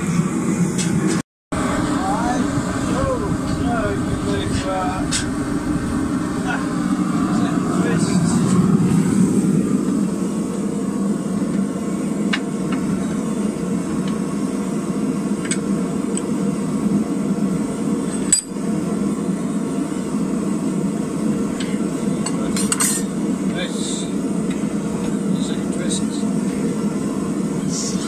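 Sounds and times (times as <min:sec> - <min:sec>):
gas forge burner rushing: 0:00.0 - 0:28.0.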